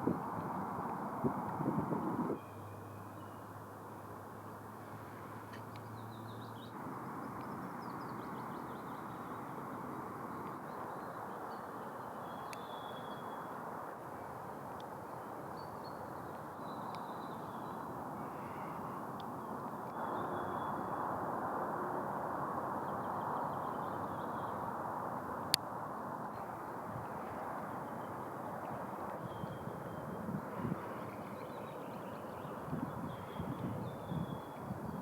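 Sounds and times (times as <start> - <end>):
wind: 0.0 - 35.0.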